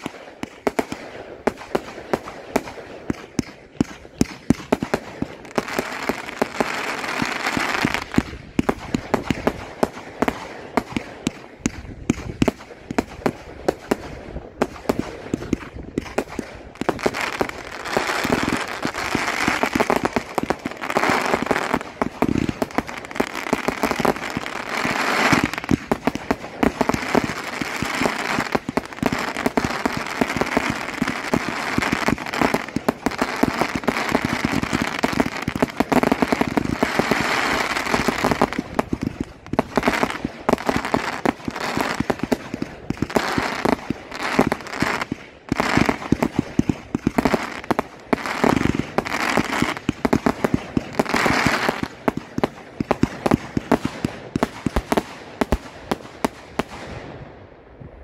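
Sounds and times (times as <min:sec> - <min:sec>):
firework crackling: 0:00.0 - 0:57.2
firework shots and bursts: 0:00.0 - 0:57.4.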